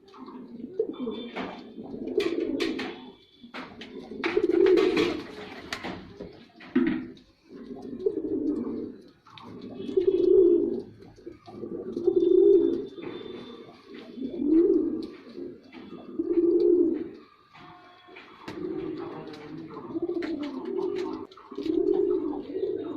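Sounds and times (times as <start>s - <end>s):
pigeon cooing: 0.0s - 22.9s.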